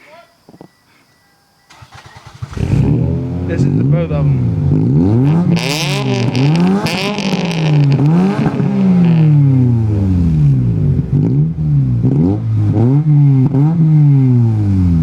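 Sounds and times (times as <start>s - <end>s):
two car engines revving: 1.7s - 15.0s.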